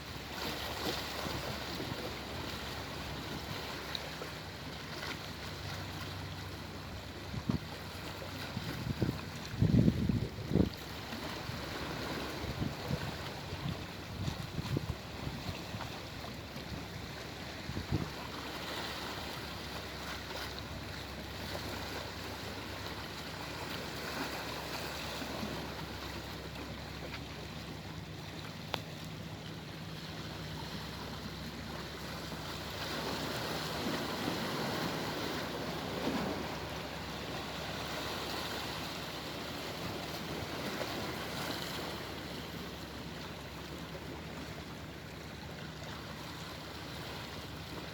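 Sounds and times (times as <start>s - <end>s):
sea waves washing onto shore: 0.0s - 47.9s.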